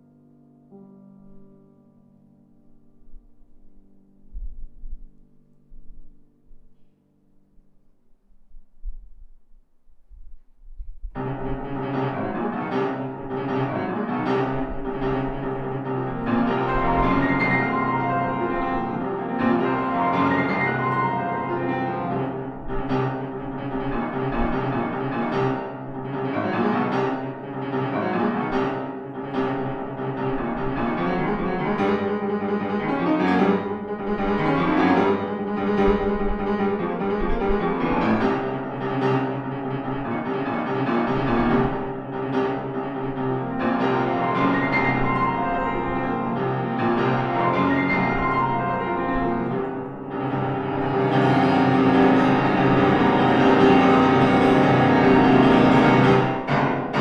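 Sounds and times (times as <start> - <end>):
fast classical piano piece: 10.2 - 57.0.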